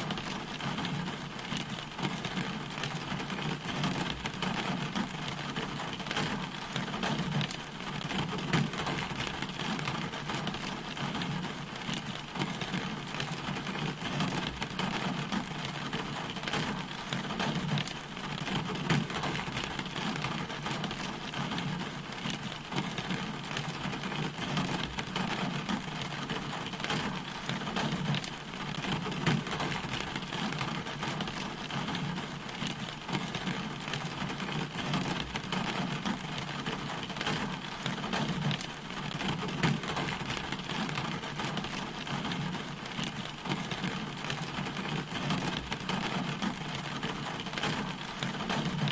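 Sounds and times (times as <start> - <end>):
rain falling: 0.0 - 48.9
raindrops ticking: 0.0 - 48.9.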